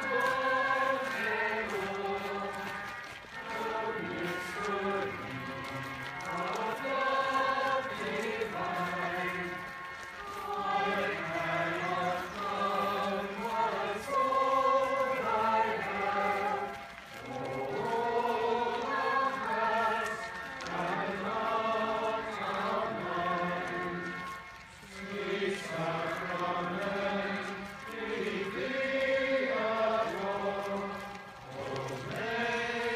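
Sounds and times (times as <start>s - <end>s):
mixed choir singing a hymn: 0.0s - 32.9s.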